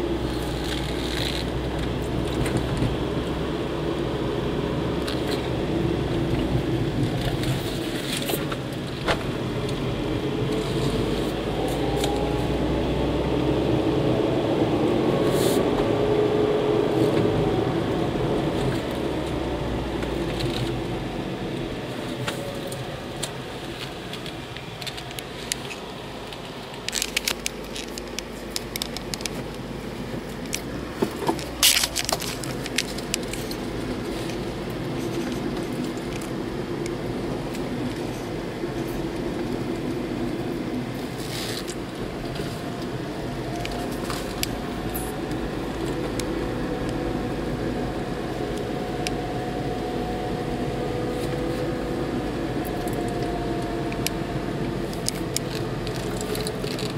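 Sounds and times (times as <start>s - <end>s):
car engine: 0.0s - 56.9s
road noise inside car: 0.0s - 56.9s.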